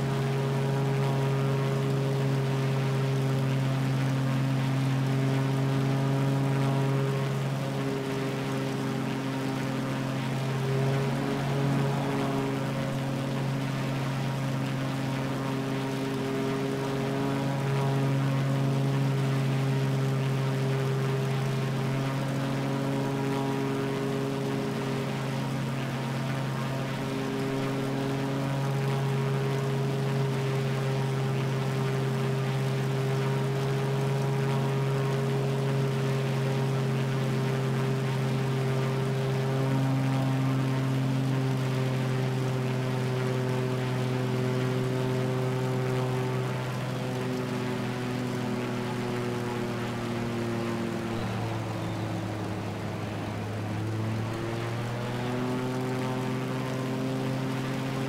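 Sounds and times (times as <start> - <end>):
propeller plane engine humming: 0.0 - 58.0.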